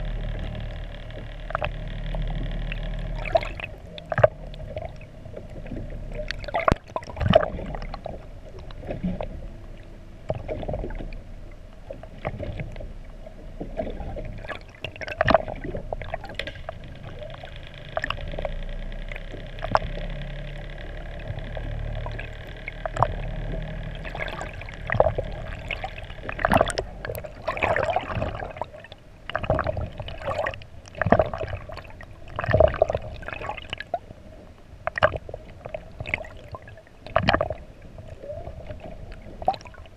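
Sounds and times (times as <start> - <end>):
underwater hum: 0.0 - 39.9
water gurgling and splashing: 0.0 - 39.9.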